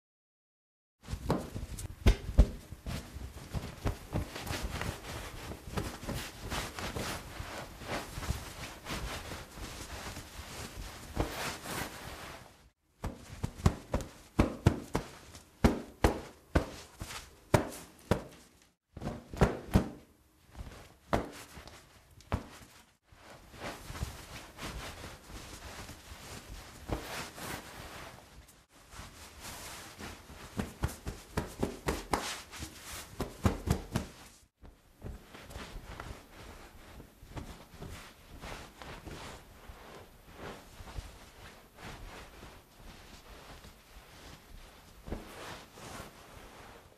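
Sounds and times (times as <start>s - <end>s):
towel rubbing over body: 1.0s - 46.9s.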